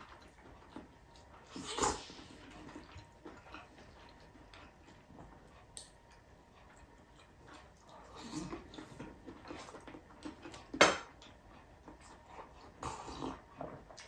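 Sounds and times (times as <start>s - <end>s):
person chewing and smacking: 0.0s - 14.0s.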